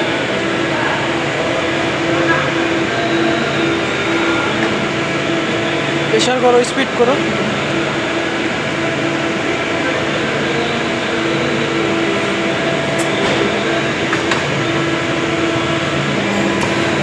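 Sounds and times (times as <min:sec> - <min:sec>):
motor-driven machine humming: 0:00.0 - 0:17.0.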